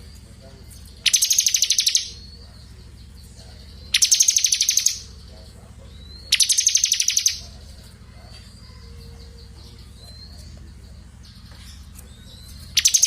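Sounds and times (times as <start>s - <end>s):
songbird trilling: 0.0s - 13.0s.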